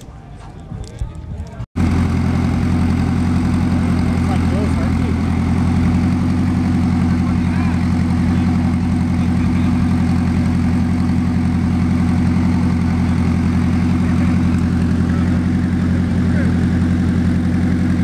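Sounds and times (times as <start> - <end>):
car engine idling: 1.2 - 18.0.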